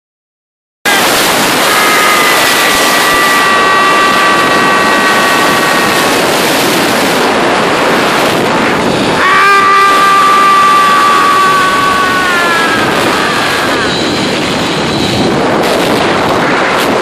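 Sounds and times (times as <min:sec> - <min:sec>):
wind rushing over microphone: 0:00.9 - 0:17.0
zipline pulley whine: 0:00.9 - 0:17.0.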